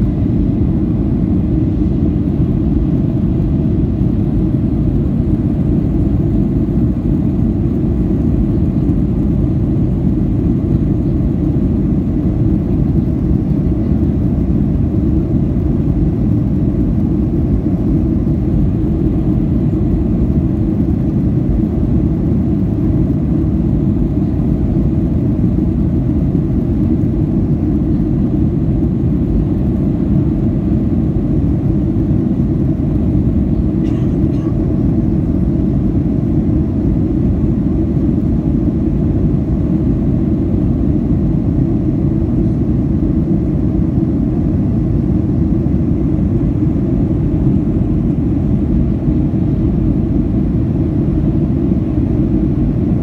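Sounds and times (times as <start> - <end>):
jet cabin engine rush: 0.0 - 53.0.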